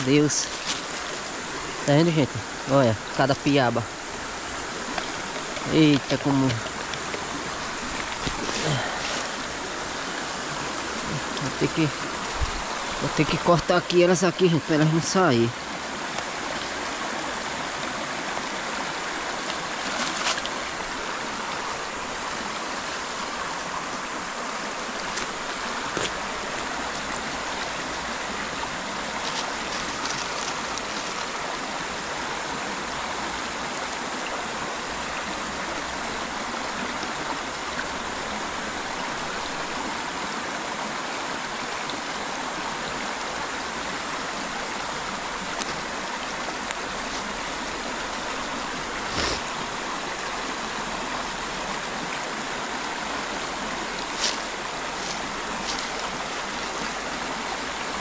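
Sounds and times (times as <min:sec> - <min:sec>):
creek water running: 0:00.0 - 0:58.0.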